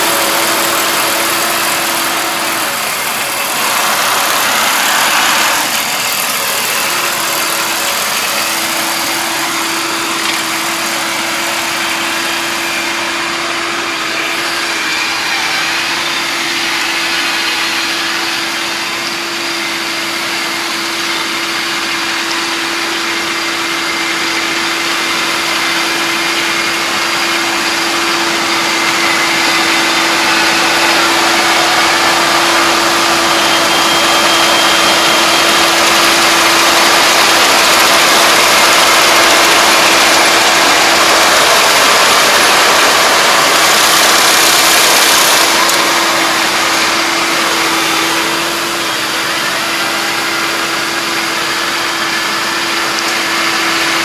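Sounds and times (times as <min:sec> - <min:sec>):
combine harvester engine hum: 0:00.0 - 0:54.0
constant machine whine: 0:00.0 - 0:54.0.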